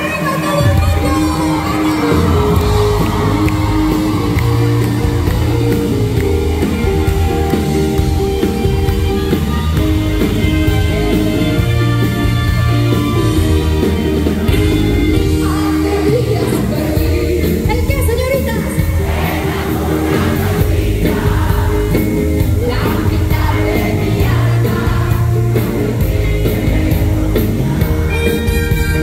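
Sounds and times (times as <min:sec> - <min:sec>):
live band playing pop song: 0:00.0 - 0:29.0.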